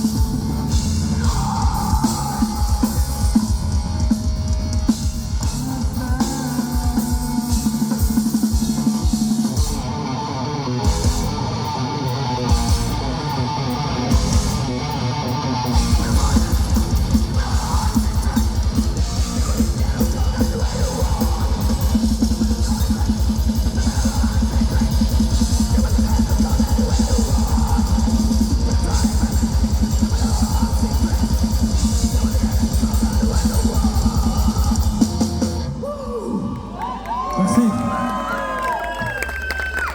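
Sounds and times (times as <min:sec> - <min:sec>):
distorted electric guitars: 0:00.0 - 0:36.2
nu metal band playing live: 0:00.0 - 0:36.2.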